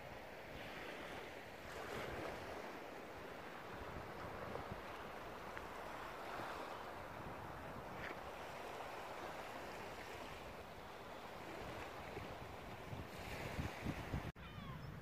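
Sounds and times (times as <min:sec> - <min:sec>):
waves on the shore: 0:00.0 - 0:14.8
wind on the microphone: 0:00.0 - 0:15.0.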